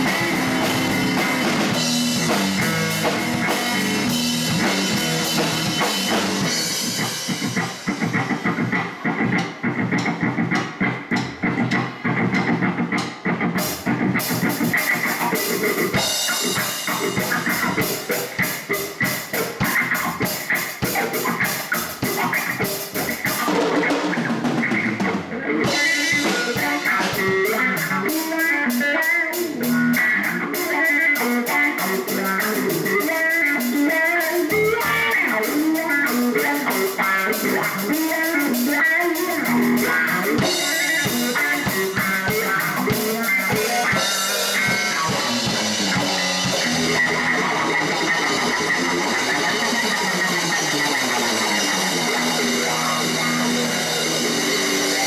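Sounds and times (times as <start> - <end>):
blues band playing: 0.0 - 55.0.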